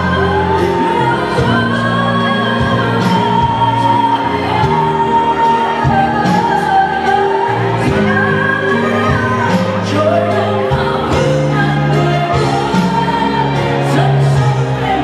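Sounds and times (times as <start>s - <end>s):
band playing bass keyboard drums: 0.0s - 15.0s
woman singing pop ballad: 0.0s - 15.0s.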